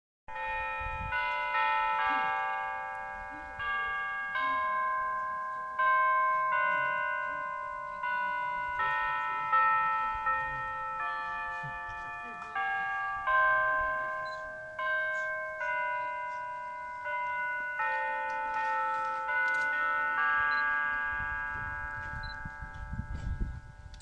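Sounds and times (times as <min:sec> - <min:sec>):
church bells playing melody: 0:00.3 - 0:24.0.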